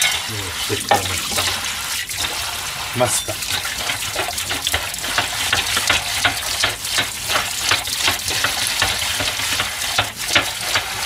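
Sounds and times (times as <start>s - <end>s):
sponge scrubbing a grate: 0.0s - 11.0s
tap water running into sink: 0.0s - 11.0s.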